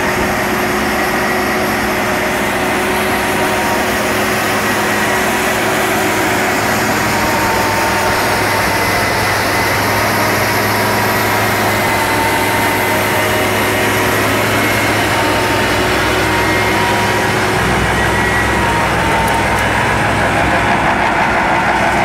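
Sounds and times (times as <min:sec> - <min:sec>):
thin steady whine: 0:00.0 - 0:22.0
tractor engine drone: 0:00.0 - 0:22.0.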